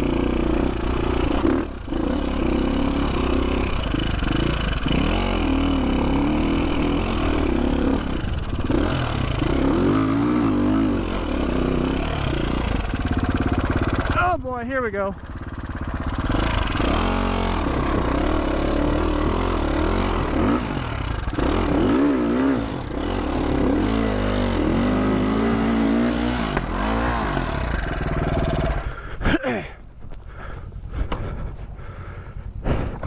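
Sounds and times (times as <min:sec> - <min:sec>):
dirt bike engine revving: 0:00.0 - 0:29.6.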